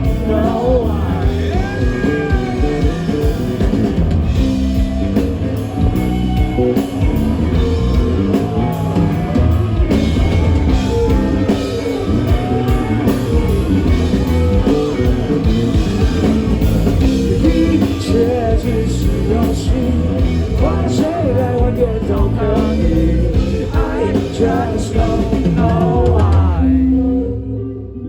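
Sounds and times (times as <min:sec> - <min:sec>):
rock band playing instrumental: 0:00.0 - 0:26.9.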